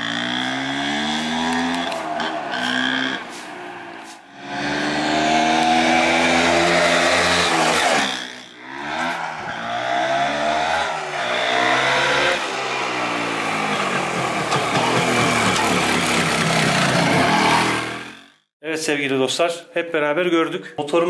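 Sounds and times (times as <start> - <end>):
two-stroke engine revving: 0.0 - 18.5.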